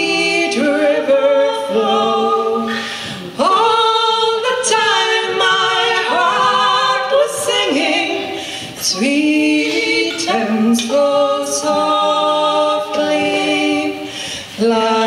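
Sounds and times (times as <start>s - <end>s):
voices singing in harmony: 0.0s - 15.0s.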